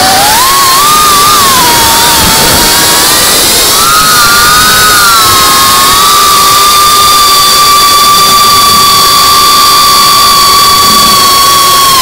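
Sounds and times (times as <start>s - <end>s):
drone propellers whining: 0.0s - 12.0s
rushing air hiss: 0.0s - 12.0s.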